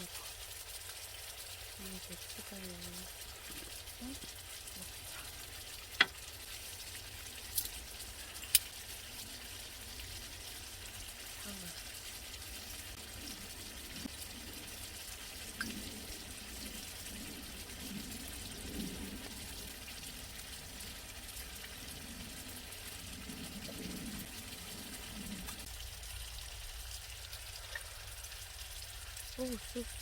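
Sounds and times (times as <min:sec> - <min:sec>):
meat sizzling on grill: 0:00.0 - 0:30.0.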